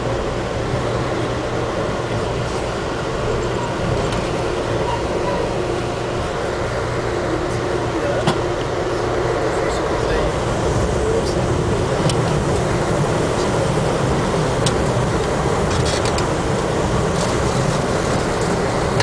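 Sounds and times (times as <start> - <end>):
train coach running noise: 0.0 - 19.0.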